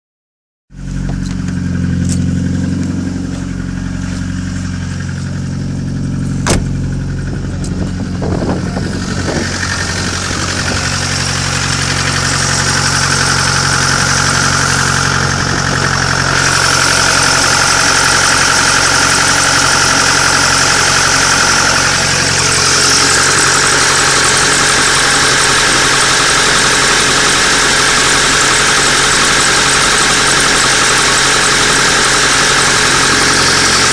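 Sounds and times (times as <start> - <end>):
car engine running with knock: 0.7 - 33.9.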